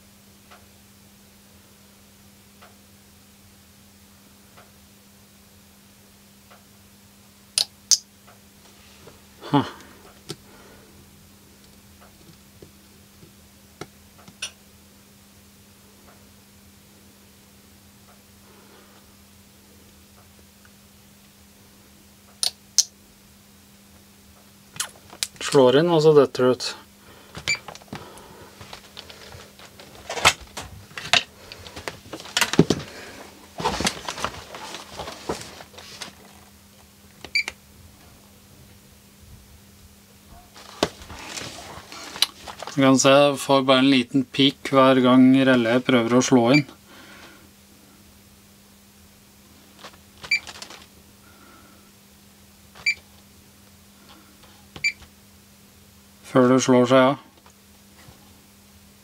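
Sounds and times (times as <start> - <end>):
faint electrical hum: 0.0 - 59.0.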